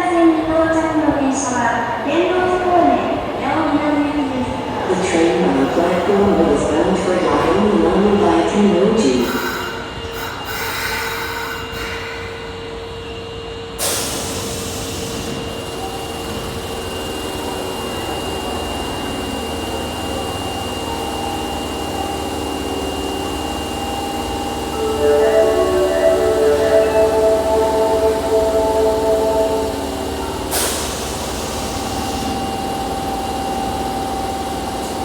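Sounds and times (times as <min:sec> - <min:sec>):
subway train equipment hum: 0:00.0 - 0:35.0.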